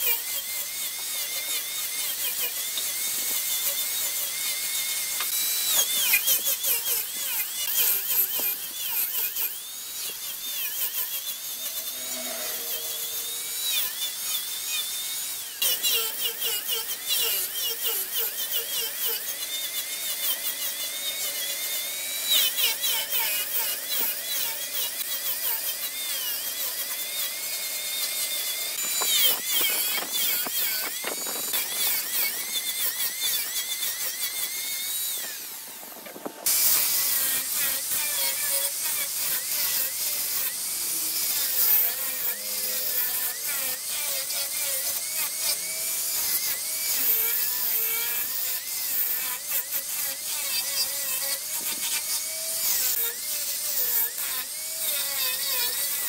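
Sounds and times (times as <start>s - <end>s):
angle grinder whining on wood: 0.0s - 56.0s.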